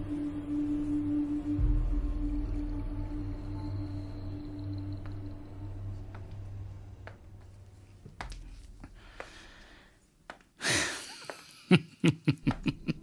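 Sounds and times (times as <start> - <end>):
soft music: 0.0 - 13.0.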